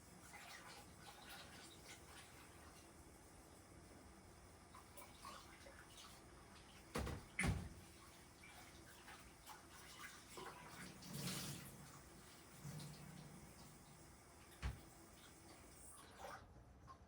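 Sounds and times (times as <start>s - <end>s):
water splashing in sink: 0.2s - 2.8s, 4.7s - 17.0s.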